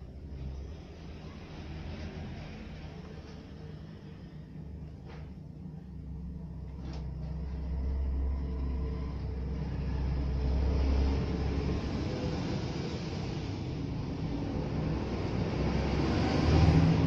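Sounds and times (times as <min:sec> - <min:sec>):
low rumble: 0:00.0 - 0:17.0
steady low hum: 0:00.0 - 0:17.0.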